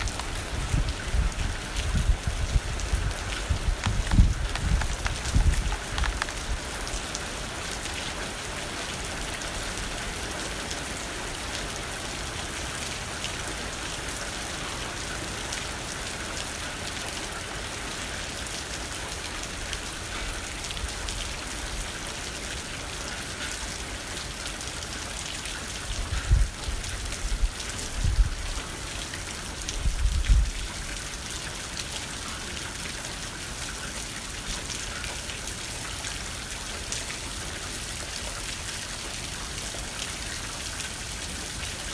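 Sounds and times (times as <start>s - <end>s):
rain pattering on a window: 0.0s - 41.9s.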